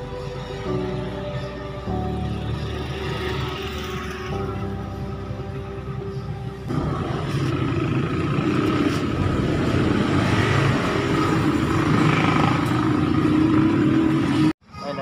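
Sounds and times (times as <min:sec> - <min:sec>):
low traffic rumble: 0:00.0 - 0:14.6
vehicles passing: 0:00.0 - 0:15.0.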